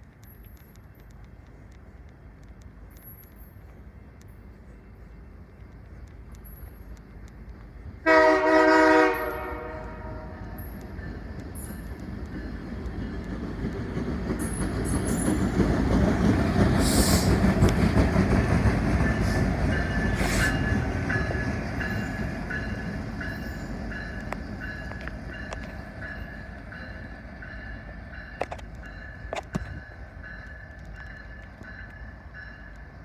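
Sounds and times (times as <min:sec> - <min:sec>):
train rumbling past: 0:01.3 - 0:33.0.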